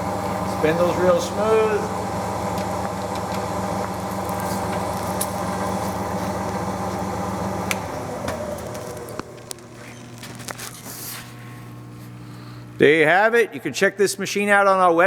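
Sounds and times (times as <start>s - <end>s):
drill press motor humming: 0.0s - 12.8s.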